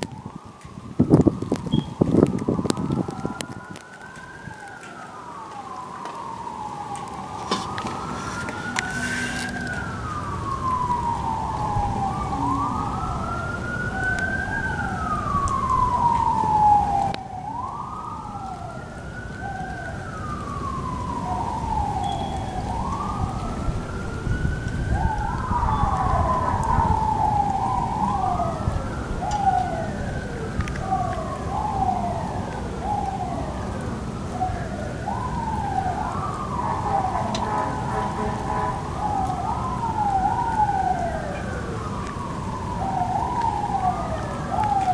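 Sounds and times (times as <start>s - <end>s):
emergency sirens wailing: 0.0s - 44.9s
siren falling glides: 0.0s - 44.9s.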